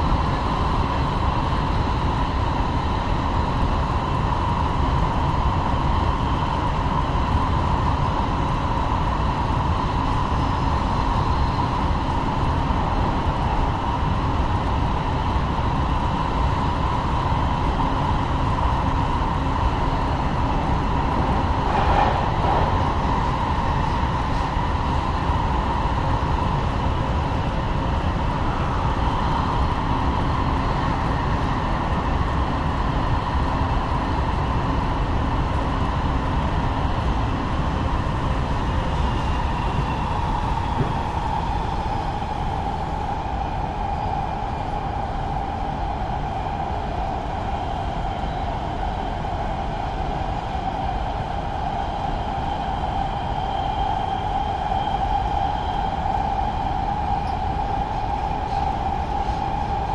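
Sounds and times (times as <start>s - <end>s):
constant whine: 0.0s - 59.9s
train wheels rumbling on track: 4.0s - 59.9s.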